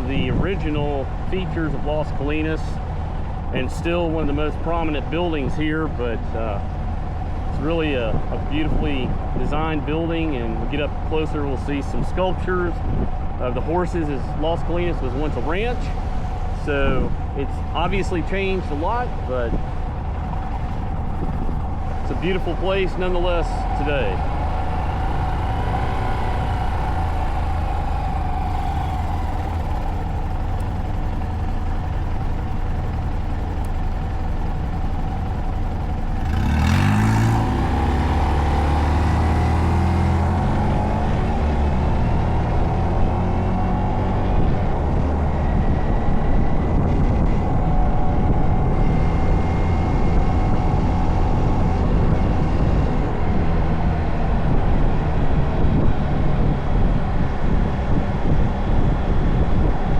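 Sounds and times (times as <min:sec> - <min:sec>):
small motorcycle engine running: 0:00.0 - 0:59.9.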